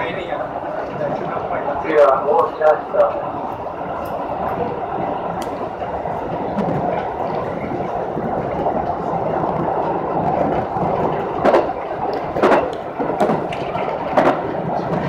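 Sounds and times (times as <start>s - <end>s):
train rolling rumble: 0.0s - 15.0s
wheels clacking over rail joints: 0.0s - 15.0s.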